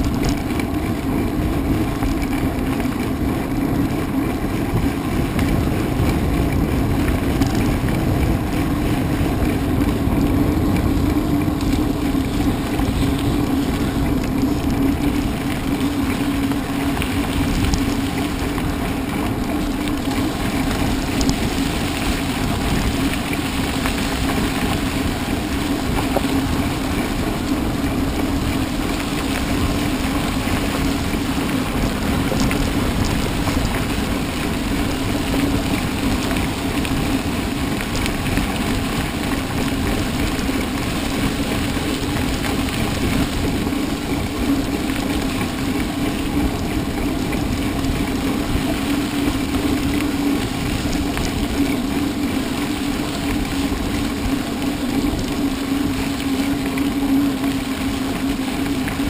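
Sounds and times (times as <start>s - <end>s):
bike tyres rolling over trail: 0.0s - 59.0s
wind buffeting microphone: 0.0s - 59.0s.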